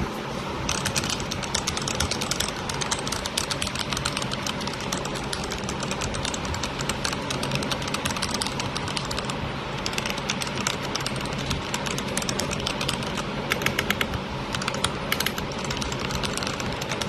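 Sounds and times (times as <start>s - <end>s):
steady low hum: 0.0s - 17.0s
rapid typing on mechanical keyboard: 0.7s - 17.0s.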